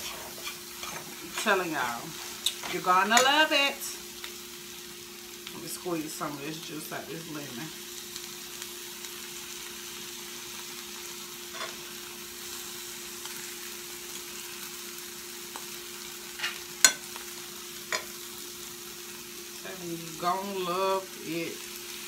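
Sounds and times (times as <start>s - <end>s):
fish sizzling in a frying pan: 0.0s - 22.0s.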